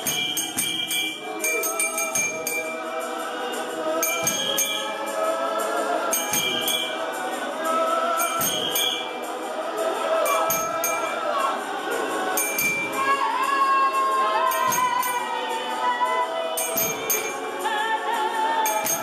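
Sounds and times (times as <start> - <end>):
metallic jingling: 0.0 - 9.4, 10.1 - 17.8, 18.6 - 19.0
choir singing gospel song: 0.0 - 19.0.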